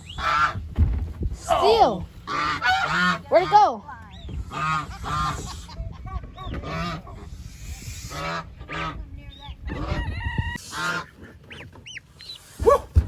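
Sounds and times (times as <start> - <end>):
geese honking: 0.0 - 0.6, 1.6 - 12.6.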